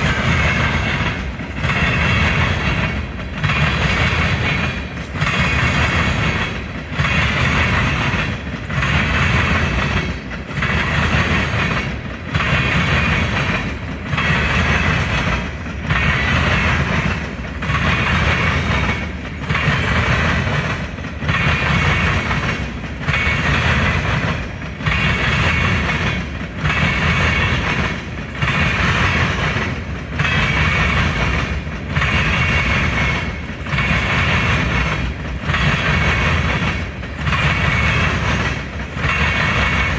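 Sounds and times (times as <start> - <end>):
train cars rolling past: 0.0 - 39.9.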